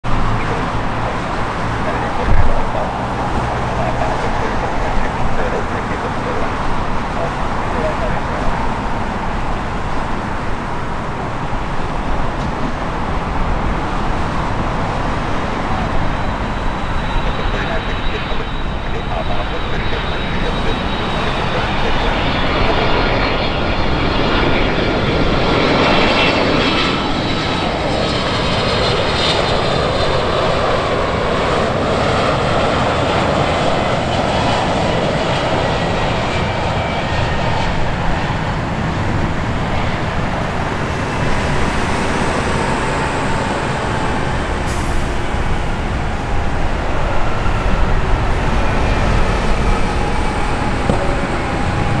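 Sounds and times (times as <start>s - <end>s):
jet roar with fan whine: 0.0s - 52.0s.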